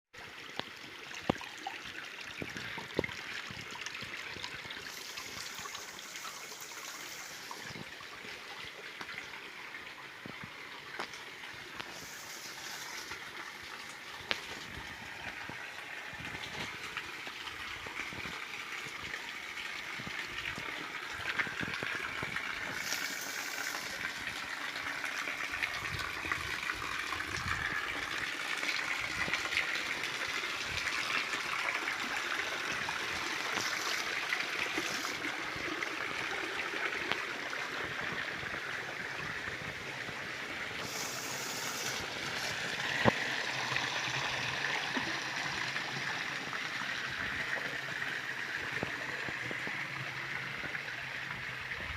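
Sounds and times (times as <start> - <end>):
stream water flowing: 0.2 - 51.9.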